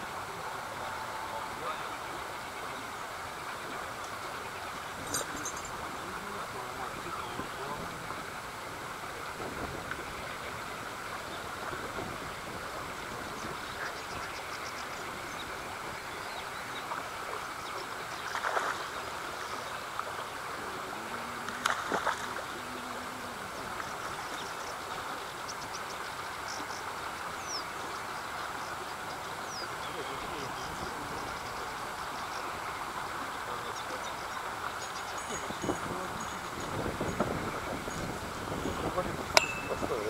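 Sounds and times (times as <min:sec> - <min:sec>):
water rushing: 0:00.0 - 0:40.0
wind: 0:00.0 - 0:40.0.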